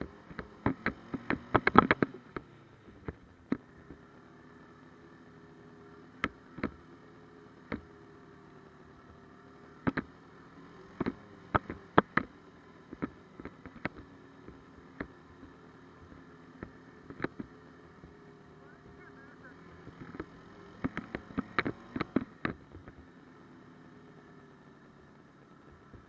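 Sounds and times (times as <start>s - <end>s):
snowmobile engine drone: 0.0s - 26.0s.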